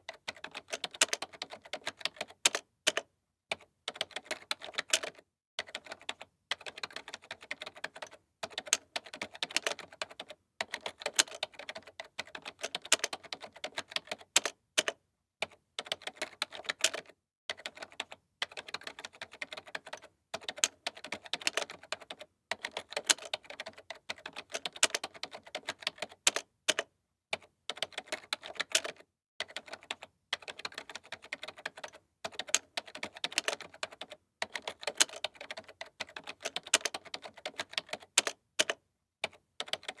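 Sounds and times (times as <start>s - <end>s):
keyboard typing: 0.0s - 40.0s.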